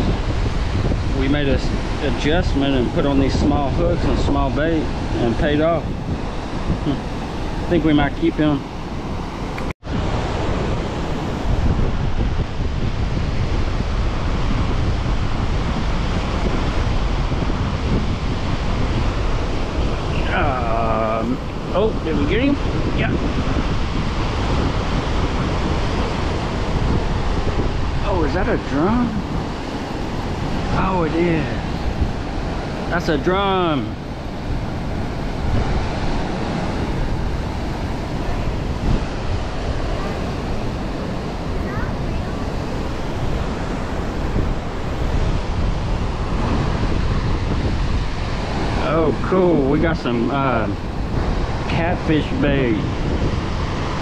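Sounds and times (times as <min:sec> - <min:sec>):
water rushing through spillway: 0:00.0 - 0:54.0
wind buffeting microphone: 0:00.0 - 0:54.0.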